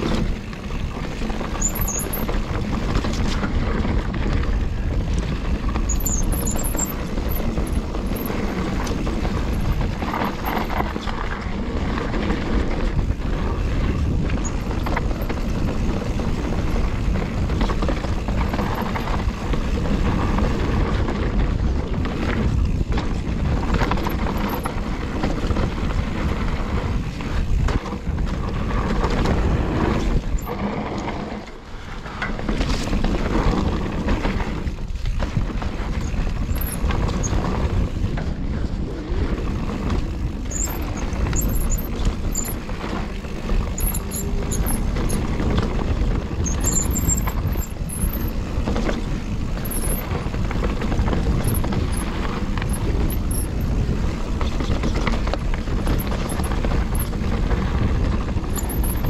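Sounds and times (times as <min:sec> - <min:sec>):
bike rattling over rough ground: 0:00.0 - 0:59.0
tyre rumble: 0:00.0 - 0:59.0
wind on microphone: 0:00.0 - 0:59.0.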